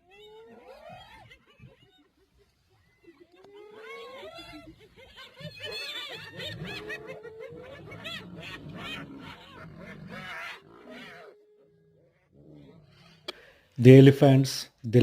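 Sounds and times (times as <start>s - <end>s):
hyenas giggling and squealing: 0.0s - 13.3s.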